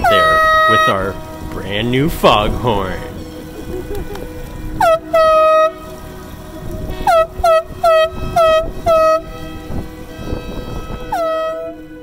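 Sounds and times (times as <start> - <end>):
boat foghorn blasts: 0.0 - 12.0.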